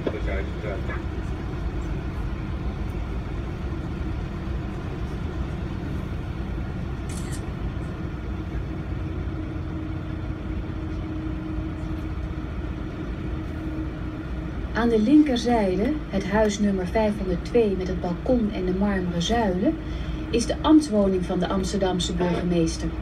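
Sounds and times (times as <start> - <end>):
boat engine droning: 0.0 - 23.0
steady hum: 0.0 - 23.0.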